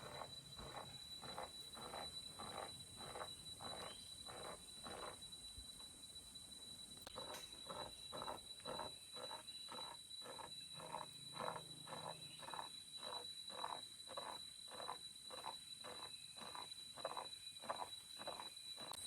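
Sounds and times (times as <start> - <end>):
animal calling in pulses: 0.0 - 5.2, 7.1 - 19.0
insect whine: 0.0 - 19.0.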